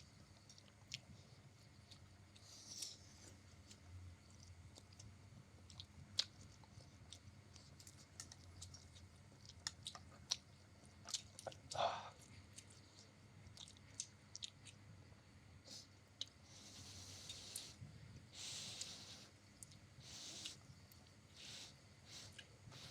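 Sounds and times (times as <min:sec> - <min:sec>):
chewing noodles: 0:00.3 - 0:14.9, 0:18.4 - 0:22.9.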